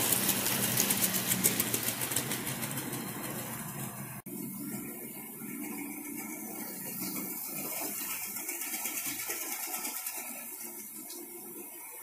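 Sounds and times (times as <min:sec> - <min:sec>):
wheels clicking on track: 0:00.0 - 0:12.0.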